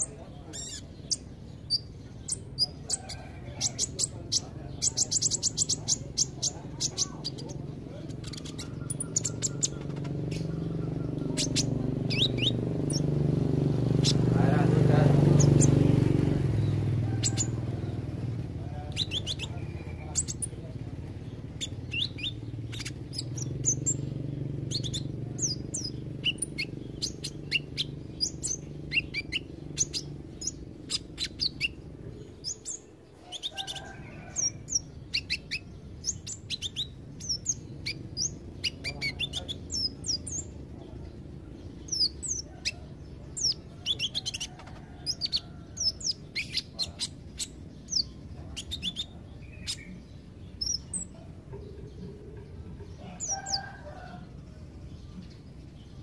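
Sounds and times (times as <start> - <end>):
sunbird chirps and twitters: 0.0 - 56.0.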